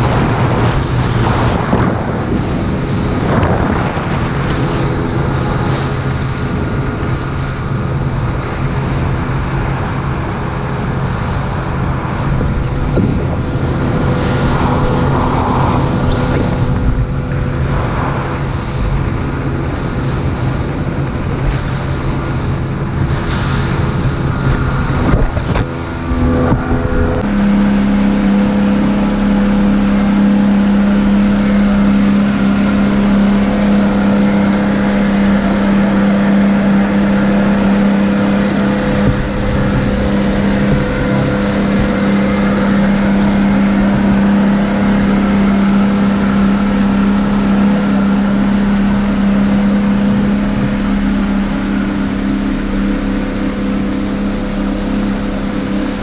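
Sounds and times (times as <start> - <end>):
boat wake rushing: 0.0 - 56.0
outboard motor running: 0.0 - 56.0
strong steady hum: 0.0 - 56.0.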